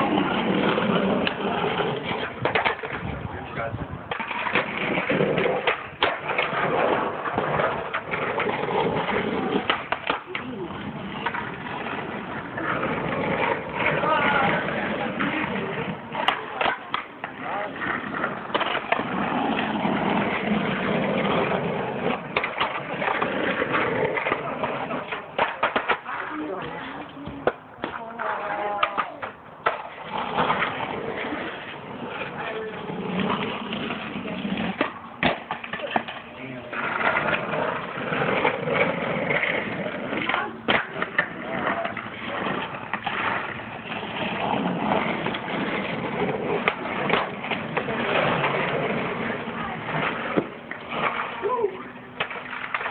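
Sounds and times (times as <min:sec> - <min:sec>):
skateboard clacks: 0:00.0 - 0:52.9
skateboard wheels rolling on asphalt: 0:00.0 - 0:52.9.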